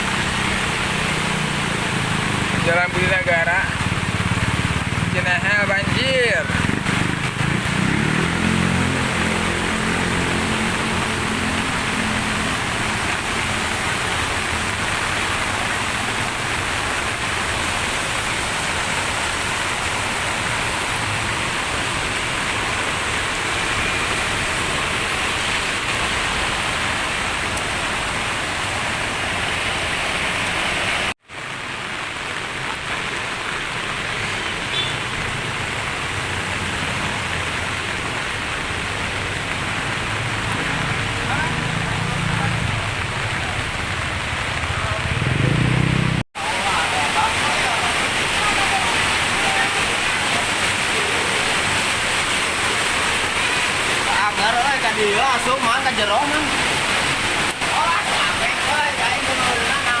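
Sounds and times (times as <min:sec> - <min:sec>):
flowing floodwater: 0:00.0 - 1:00.0
heavy rain: 0:00.0 - 1:00.0.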